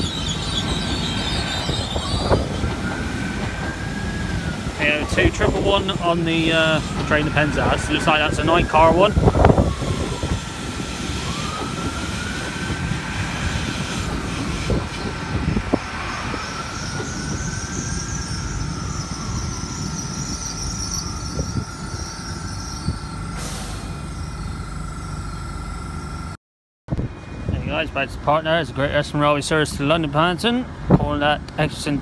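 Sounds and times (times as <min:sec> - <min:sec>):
train wheels rumbling on rail: 0:00.0 - 0:26.3
gliding whining tones: 0:00.0 - 0:26.4
constant high whine: 0:00.0 - 0:32.0.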